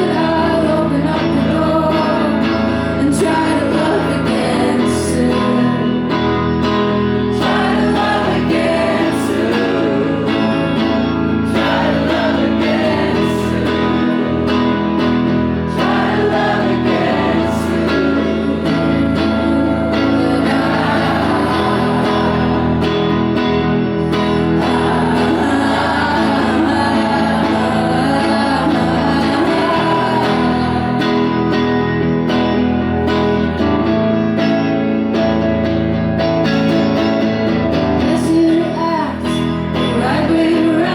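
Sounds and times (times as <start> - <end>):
woman singing: 0.0 - 31.9, 38.0 - 40.9
strummed guitar: 0.0 - 40.9.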